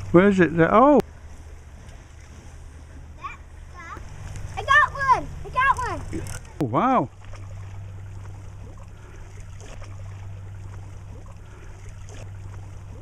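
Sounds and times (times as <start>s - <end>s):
low hum: 0.0s - 13.0s
water-like outdoor noise: 0.0s - 13.0s.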